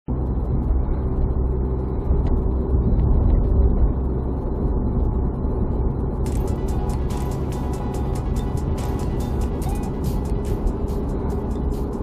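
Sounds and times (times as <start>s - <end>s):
car tyre and engine rumble: 0.1s - 12.0s.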